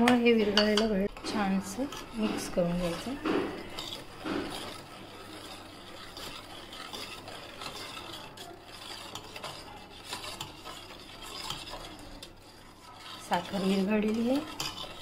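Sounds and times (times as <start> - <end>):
spoon stirring in a steel bowl: 0.0 - 15.0.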